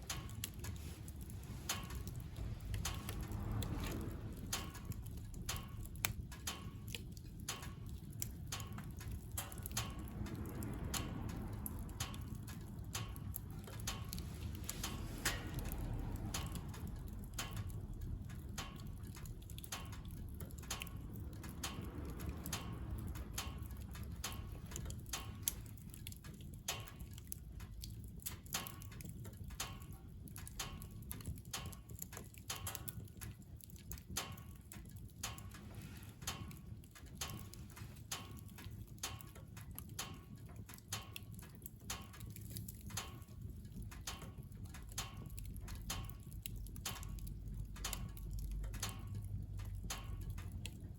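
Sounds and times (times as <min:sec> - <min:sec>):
firewood crackling and popping: 0:00.0 - 0:50.9
low steady rumble: 0:00.0 - 0:50.9.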